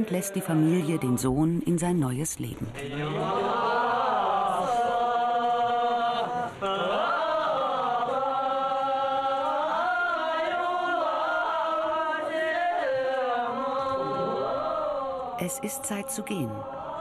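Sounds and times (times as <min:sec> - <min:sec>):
voices singing chant-like song: 0:02.7 - 0:17.0.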